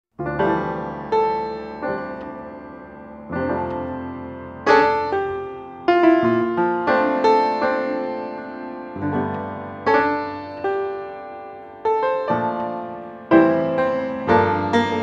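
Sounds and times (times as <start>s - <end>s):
piano chords: 0.1s - 15.0s.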